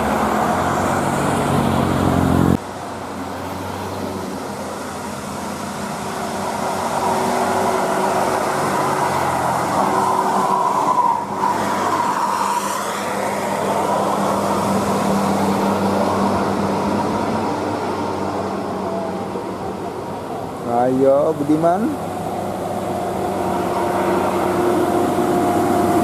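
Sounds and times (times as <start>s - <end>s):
bus engine and tyre noise: 0.0s - 26.0s
bus whine: 0.0s - 26.0s.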